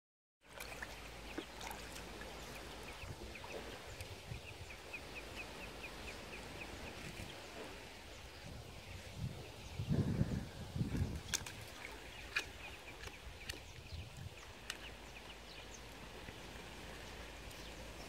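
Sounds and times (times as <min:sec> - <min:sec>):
faint outdoor background: 0:00.4 - 0:18.0.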